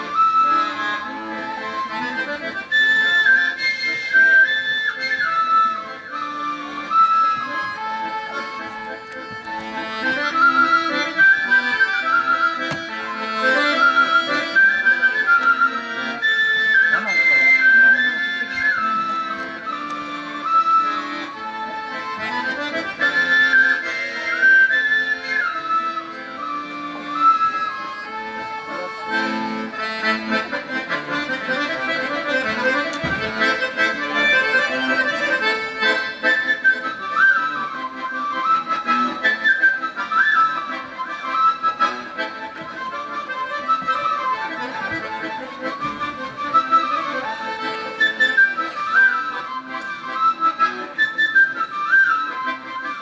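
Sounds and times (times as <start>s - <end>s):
button accordion chords: 0.0s - 53.0s
folk flute melody: 0.0s - 53.0s.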